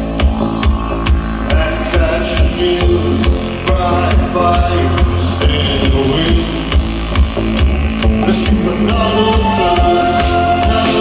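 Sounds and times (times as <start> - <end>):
drum beat: 0.0 - 11.0
guitar: 0.0 - 11.0
pulsing bass line: 0.0 - 11.0
synthesizer: 0.0 - 11.0.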